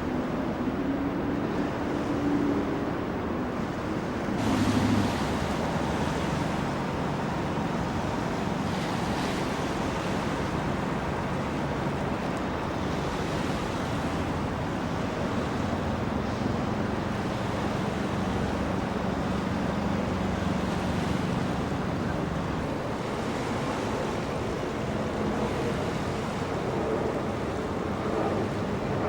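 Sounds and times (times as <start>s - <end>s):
boat engine drone: 0.0s - 29.0s
water noise: 0.0s - 29.0s
wind rumble on microphone: 0.0s - 29.0s.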